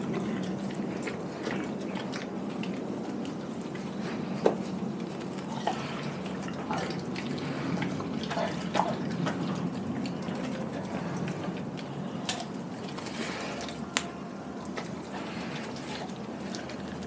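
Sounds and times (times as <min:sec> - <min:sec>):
dog chewing raw meat: 0:00.0 - 0:17.0.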